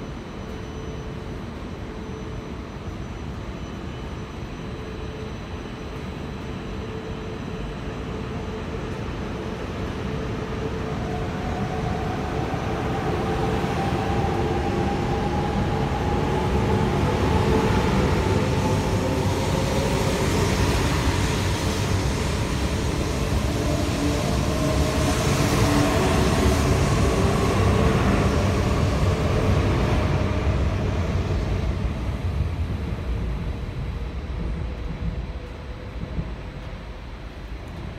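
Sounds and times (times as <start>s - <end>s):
rumble and hiss of wheels: 0.0s - 37.9s.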